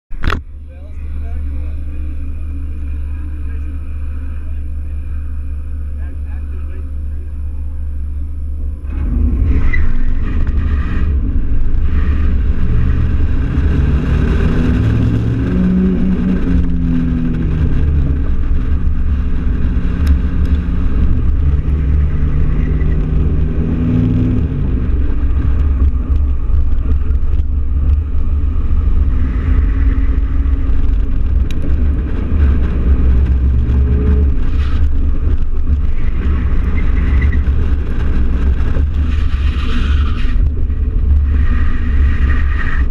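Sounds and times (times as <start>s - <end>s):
pickup engine revving: 0.2s - 42.9s.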